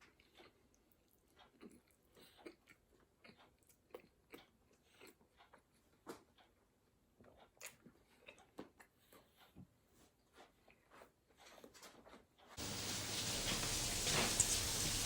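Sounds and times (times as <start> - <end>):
moist chewing with crunches: 0.0 - 11.7, 12.6 - 15.0.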